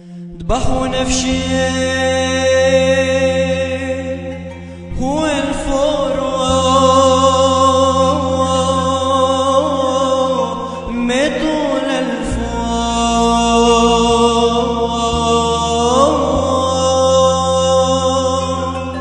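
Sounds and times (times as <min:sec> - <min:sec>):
low sustained accompaniment: 0:00.0 - 0:19.0
person chanting a prayer: 0:00.0 - 0:19.0.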